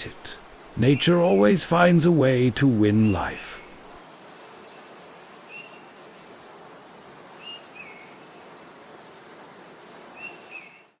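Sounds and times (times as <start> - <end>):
small birds chirping: 0.0 - 6.2, 6.8 - 11.0
steady background hiss: 0.0 - 11.0.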